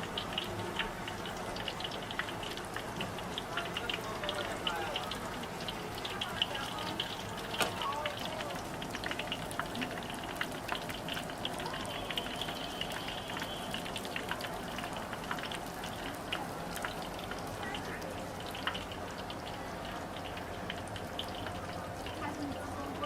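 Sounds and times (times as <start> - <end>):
food sizzling in hot oil: 0.0 - 23.0
oil crackles and pops: 0.0 - 23.0.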